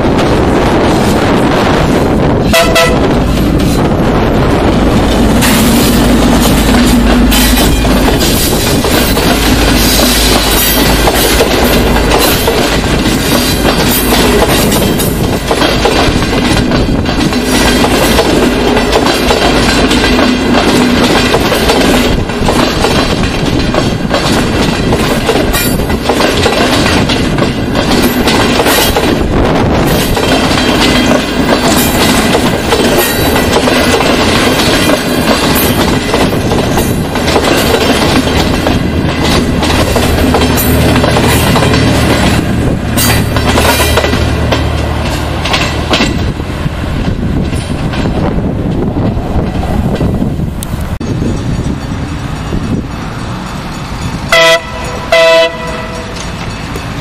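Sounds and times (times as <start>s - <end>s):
train coaches rolling past: 0.0s - 57.0s
wheels clacking over rail joints: 0.0s - 57.0s.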